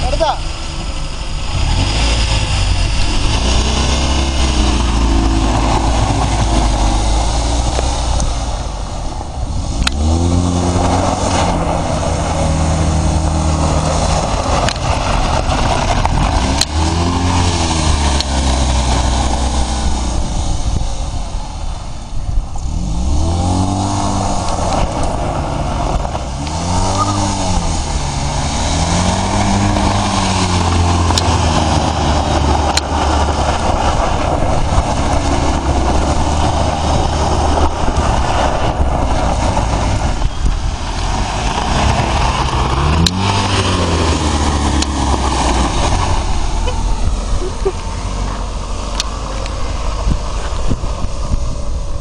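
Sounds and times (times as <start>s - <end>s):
car engine revving: 0.0s - 52.0s
tyres sliding on dirt: 0.4s - 20.3s, 22.9s - 52.0s.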